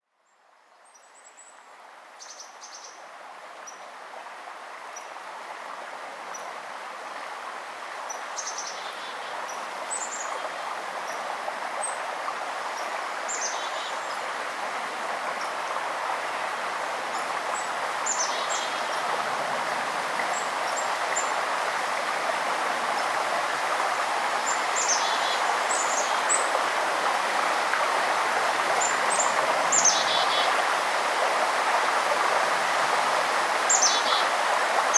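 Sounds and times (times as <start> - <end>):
river water rushing: 3.2 - 34.9.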